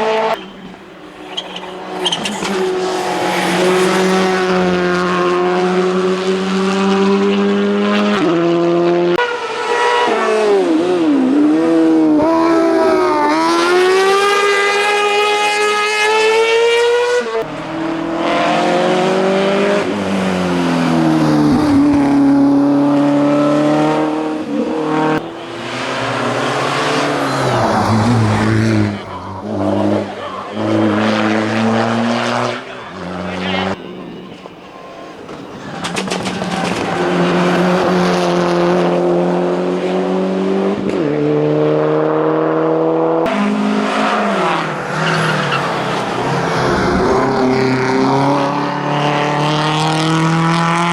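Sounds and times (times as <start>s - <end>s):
racing car engines revving: 0.0s - 50.9s.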